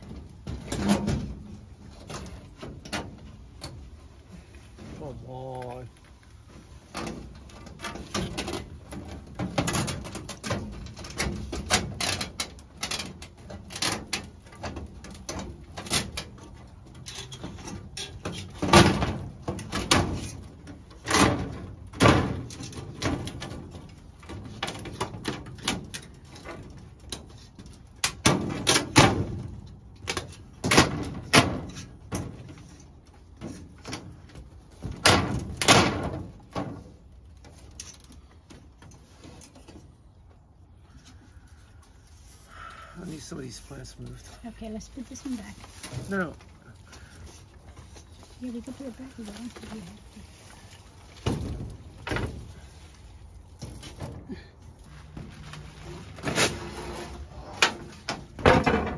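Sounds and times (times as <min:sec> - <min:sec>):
plastic panels scraping and rattling: 0:00.0 - 0:41.2, 0:45.0 - 0:58.9.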